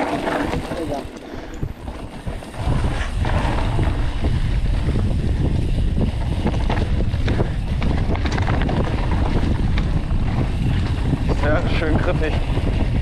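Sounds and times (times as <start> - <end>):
bike knocking and rattling: 0.0 - 13.0
bike tyres on dirt: 0.0 - 13.0
wind rumbling on microphone: 0.0 - 13.0.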